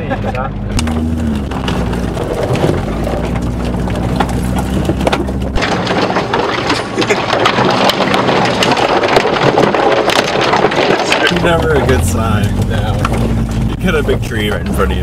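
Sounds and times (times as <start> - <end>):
car engine humming: 0.0 - 15.0
branches scraping car body: 0.7 - 15.0.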